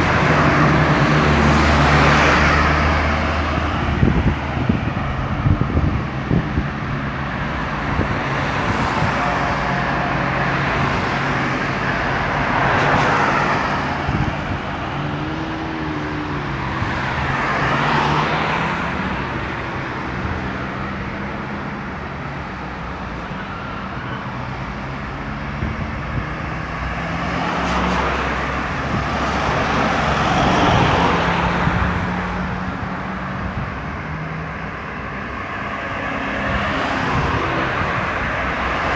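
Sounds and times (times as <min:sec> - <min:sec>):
cars passing: 0:00.0 - 0:38.9.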